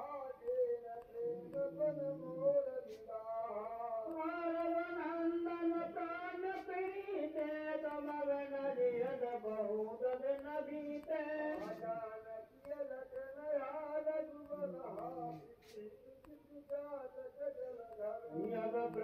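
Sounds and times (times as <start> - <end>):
person singing over music: 0.0 - 19.0.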